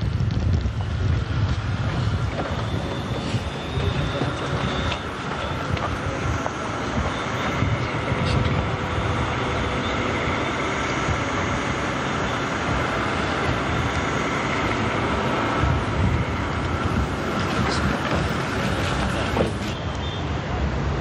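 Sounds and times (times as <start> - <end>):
heavy low rumble outdoors: 0.0 - 19.8.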